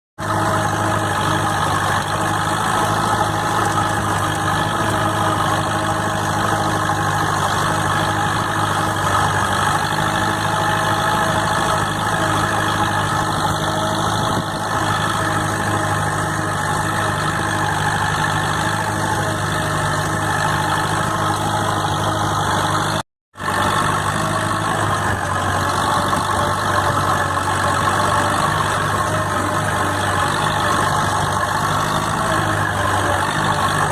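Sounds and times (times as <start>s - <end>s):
tractor engine running: 0.2s - 33.9s.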